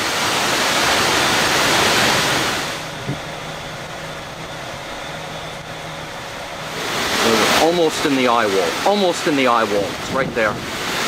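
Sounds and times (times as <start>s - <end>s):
strong wind roaring: 0.0s - 11.0s
faint low hum: 1.1s - 10.7s.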